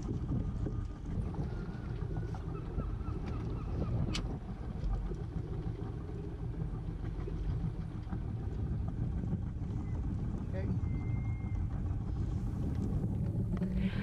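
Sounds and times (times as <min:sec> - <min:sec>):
boat engine running slowly: 0:00.0 - 0:14.0.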